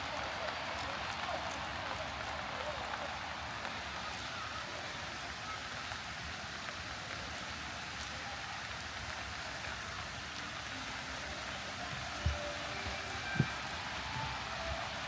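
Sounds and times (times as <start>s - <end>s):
light rain falling: 0.0s - 15.0s
raindrops ticking: 0.0s - 15.0s.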